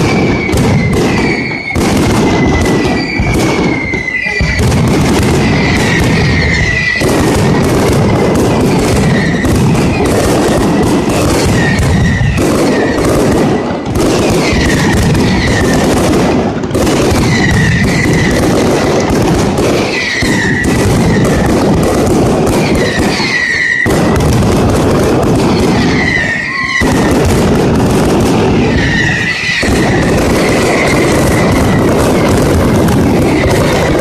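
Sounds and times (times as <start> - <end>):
firecracker bangs and crackles: 0.0 - 34.0
whistling firecrackers: 0.0 - 34.0.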